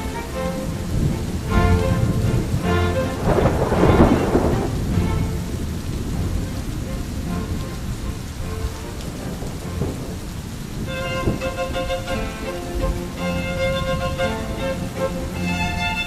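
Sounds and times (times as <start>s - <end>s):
heavy rain: 0.0s - 16.0s
thunderclap rolling rumble: 0.0s - 16.0s.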